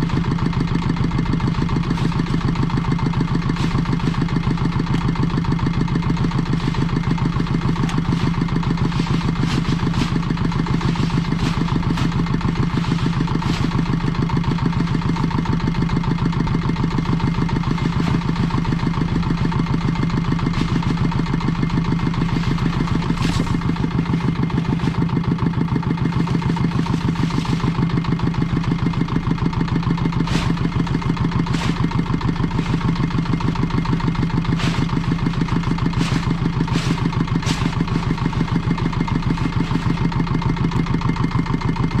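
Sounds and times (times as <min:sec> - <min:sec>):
small engine running steadily: 0:00.0 - 0:42.0.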